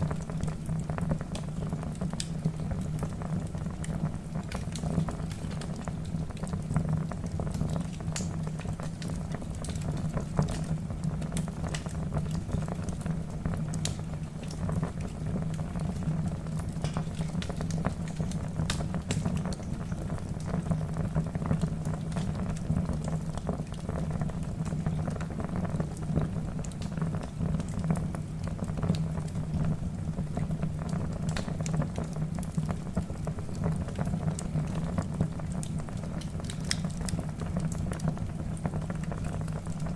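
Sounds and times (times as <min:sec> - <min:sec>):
fire crackling and popping: 0:00.0 - 0:39.9
low sound of flames: 0:00.0 - 0:39.9.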